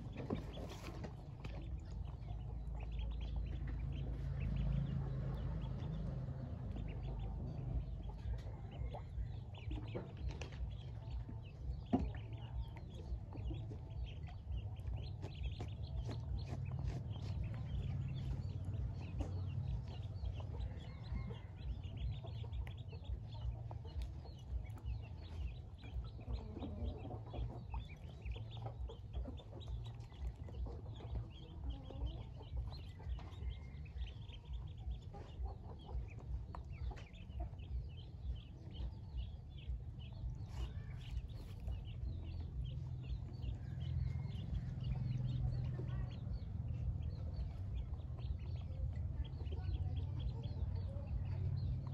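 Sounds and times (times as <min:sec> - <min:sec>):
ducklings peeping: 0:00.0 - 0:51.9
steady low rumble: 0:00.0 - 0:51.9.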